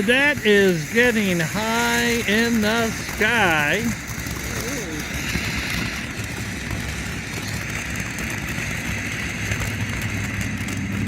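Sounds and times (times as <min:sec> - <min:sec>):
firework fountain hissing: 0:00.0 - 0:11.0
sparks crackling: 0:00.0 - 0:11.0.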